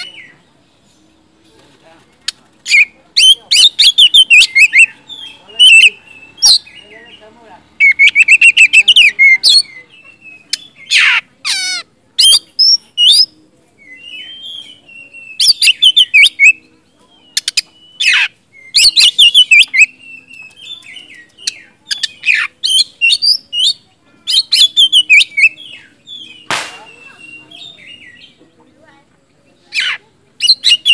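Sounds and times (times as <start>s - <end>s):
songbird singing whistles and trills: 2.7s - 7.0s, 7.8s - 11.6s, 12.2s - 28.4s, 29.6s - 30.9s.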